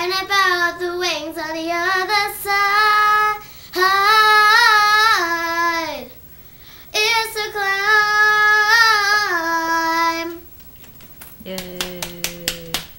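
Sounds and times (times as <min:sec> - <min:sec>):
girl singing with vibrato: 0:00.0 - 0:10.5.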